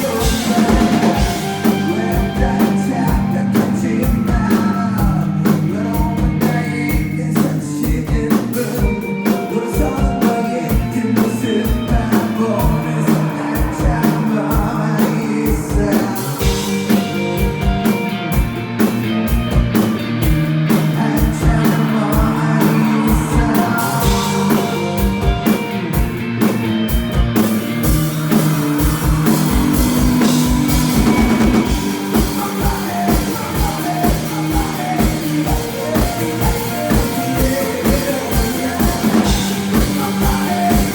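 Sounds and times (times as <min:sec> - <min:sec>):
person singing: 0:00.0 - 0:19.3, 0:20.6 - 0:26.8, 0:27.8 - 0:40.9
drum kit beat: 0:00.0 - 0:40.9
guitars: 0:00.0 - 0:40.9.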